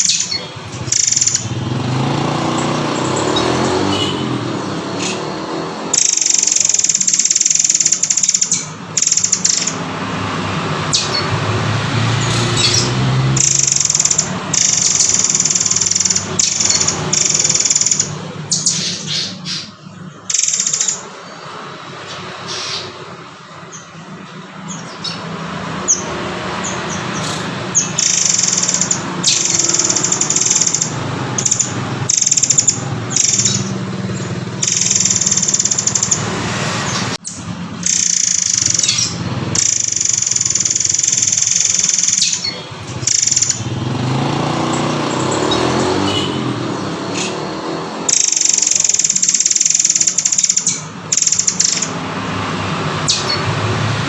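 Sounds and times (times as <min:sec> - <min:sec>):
bird singing high-pitched phrases: 0:00.0 - 0:10.0, 0:10.8 - 0:52.0, 0:53.0 - 0:53.6.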